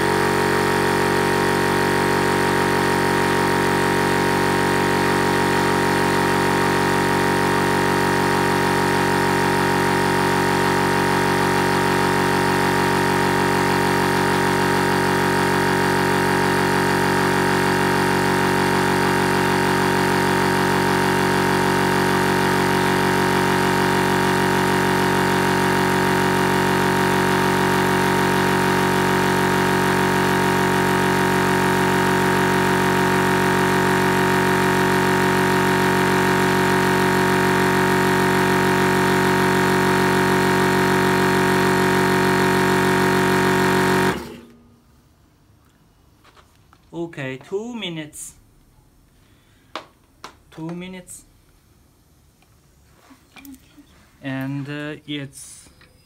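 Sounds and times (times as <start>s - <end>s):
air compressor humming: 0.0s - 47.5s.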